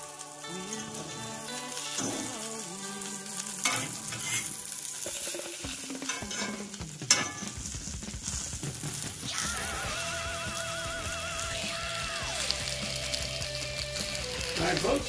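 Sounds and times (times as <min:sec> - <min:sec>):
pork chops sizzling in a skillet: 0:00.0 - 0:15.0.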